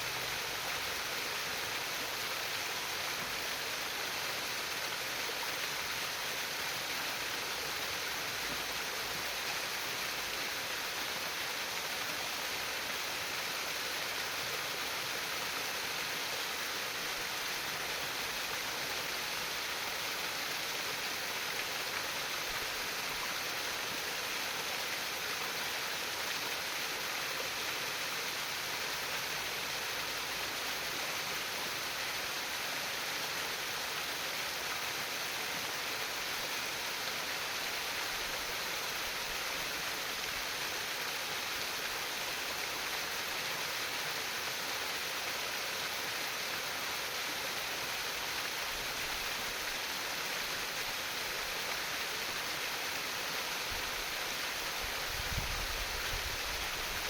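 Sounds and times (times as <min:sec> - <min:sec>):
water trickling in a stream: 0:00.0 - 0:57.0.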